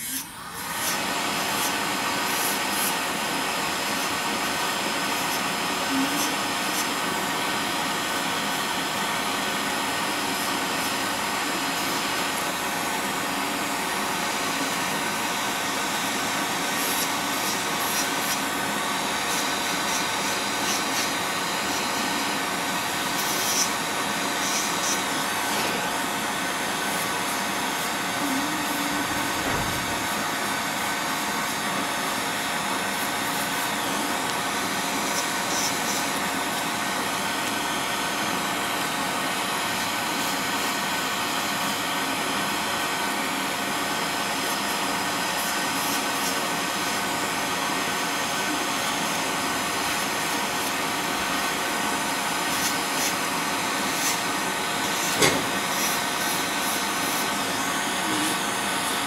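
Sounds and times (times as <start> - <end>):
nail drill suction fan hissing: 0.0 - 59.0.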